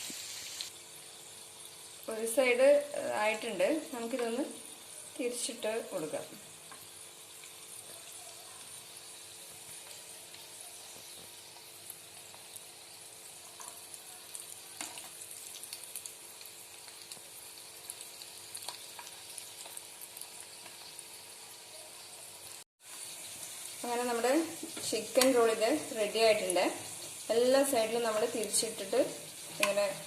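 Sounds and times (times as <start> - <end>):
food deep-frying in oil: 0.0 - 30.0.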